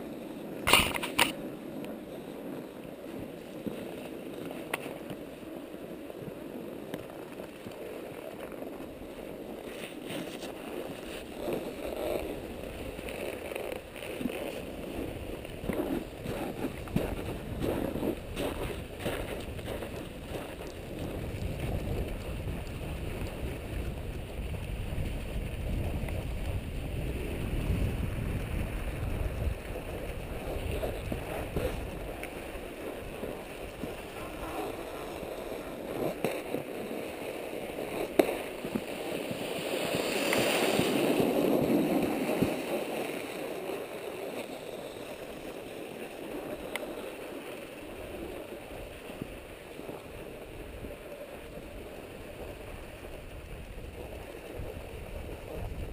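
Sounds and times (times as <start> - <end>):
skis scraping on snow: 0.0 - 55.9
wind buffeting microphone: 0.0 - 55.9.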